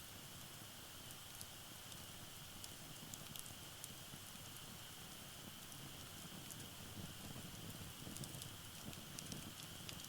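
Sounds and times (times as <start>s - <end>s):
faint high hiss: 0.0s - 10.0s
fire crackles: 0.0s - 10.0s
fire rumbling: 0.0s - 10.0s.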